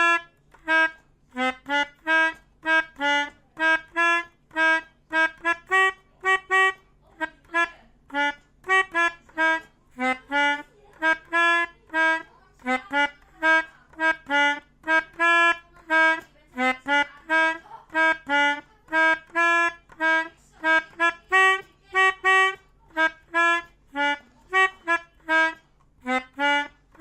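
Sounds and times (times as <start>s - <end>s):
multi-tone horn honking a melody: 0.0s - 27.0s.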